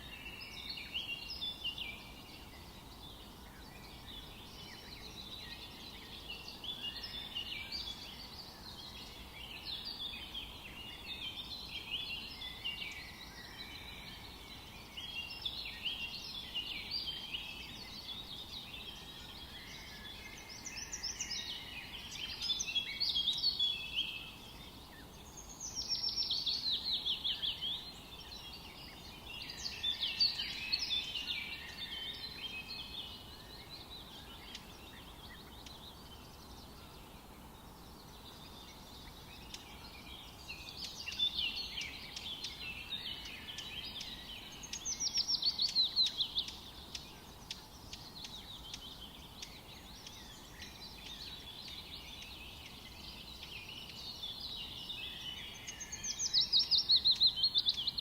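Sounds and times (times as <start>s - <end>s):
faint forest ambience hiss: 0.0s - 58.0s
songbirds chirping and trilling: 0.0s - 58.0s.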